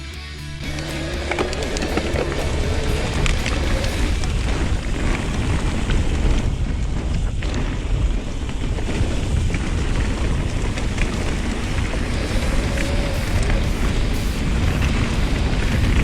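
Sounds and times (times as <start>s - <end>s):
bike tyre noise: 0.4s - 16.0s
wind buffeting microphone: 1.0s - 16.0s.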